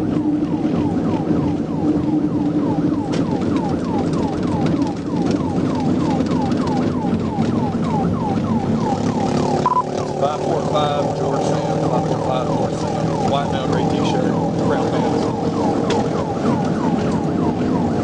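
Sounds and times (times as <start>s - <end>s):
car engine and road noise: 0.0s - 18.0s
police siren yelping: 0.0s - 18.0s.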